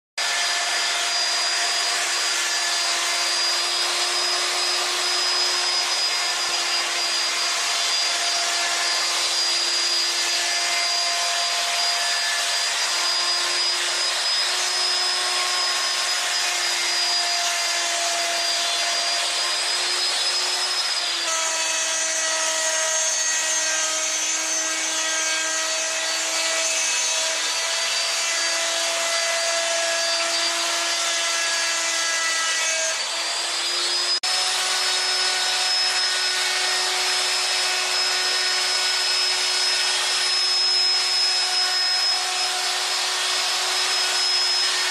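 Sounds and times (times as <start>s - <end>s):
electric router whining: 0.2s - 44.9s.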